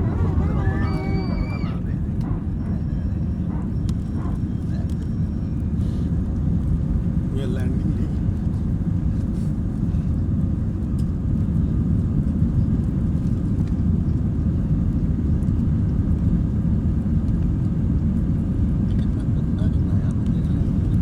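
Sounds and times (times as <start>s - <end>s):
jet engines and airflow rumble: 0.0s - 21.0s.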